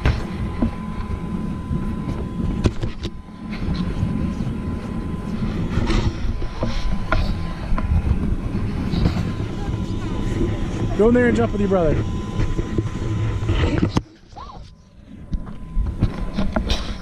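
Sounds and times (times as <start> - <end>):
blower fan running: 0.0 - 17.0.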